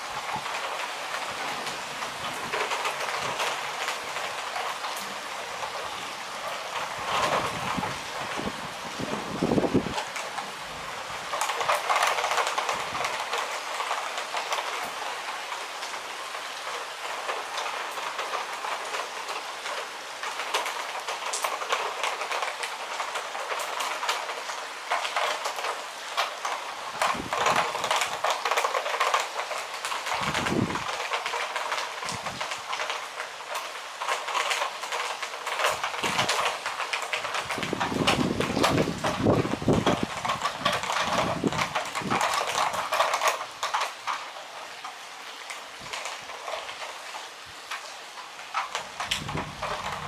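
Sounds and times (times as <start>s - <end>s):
heavy rain pattering: 0.0s - 50.0s.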